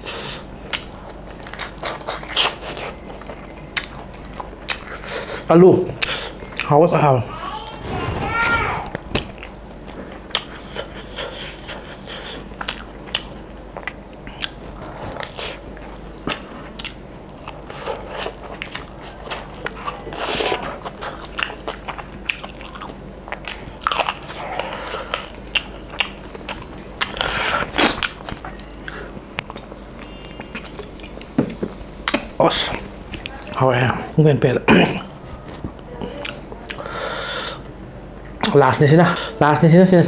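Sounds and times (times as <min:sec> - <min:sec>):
man chewing food: 0:00.0 - 0:07.1, 0:08.9 - 0:38.4.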